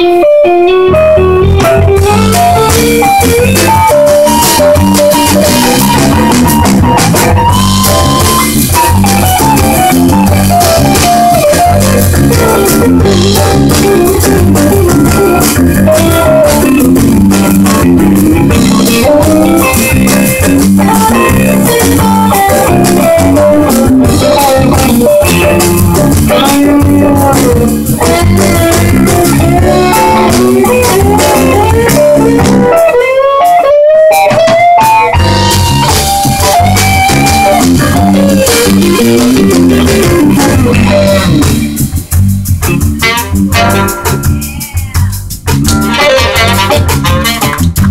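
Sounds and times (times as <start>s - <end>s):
jazz band playing: 0.0s - 47.9s.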